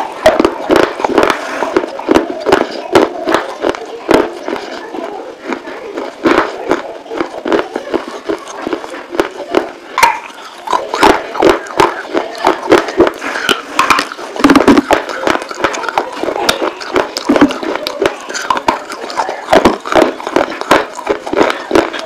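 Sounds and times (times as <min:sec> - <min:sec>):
crunching and chewing clay pieces: 0:00.0 - 0:22.0.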